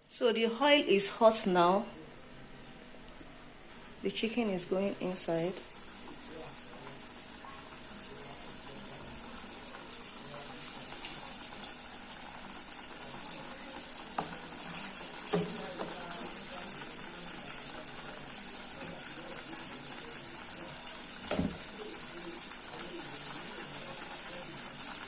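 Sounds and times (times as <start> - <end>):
chicken wings frying in oil: 4.2 - 25.0.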